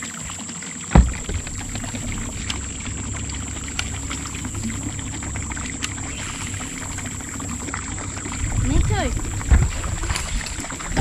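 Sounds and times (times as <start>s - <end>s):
water wash: 0.0s - 11.0s
boat engine rumble: 0.1s - 11.0s.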